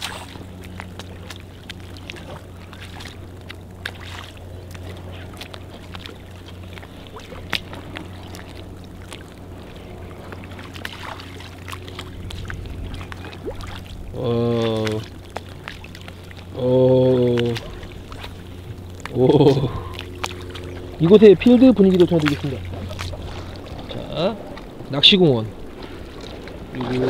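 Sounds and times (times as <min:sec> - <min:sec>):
low motor hum: 0:00.0 - 0:27.0
water lapping against boat: 0:00.0 - 0:27.0.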